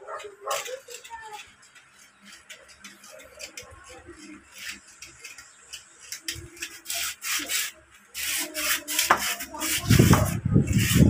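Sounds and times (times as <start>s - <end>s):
sandpaper rubbing on metal: 0.1s - 11.0s.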